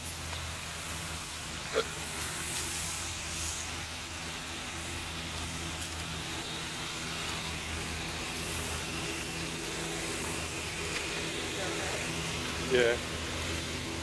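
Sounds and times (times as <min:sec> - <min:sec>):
even hiss: 0:00.0 - 0:14.0
low mechanical hum: 0:00.0 - 0:14.0.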